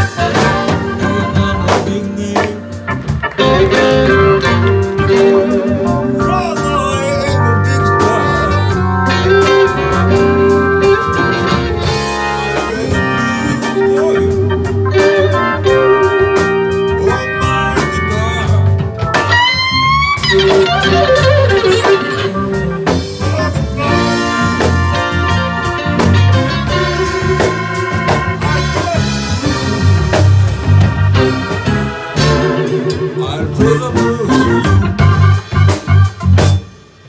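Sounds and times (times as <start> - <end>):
drum kit: 0.0 - 37.0
electric guitar: 0.0 - 37.0.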